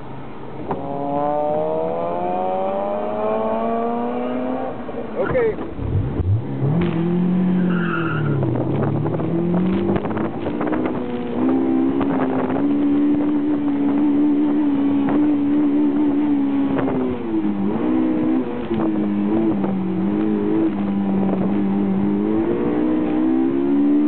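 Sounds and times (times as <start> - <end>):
car engine revving: 0.7 - 24.0.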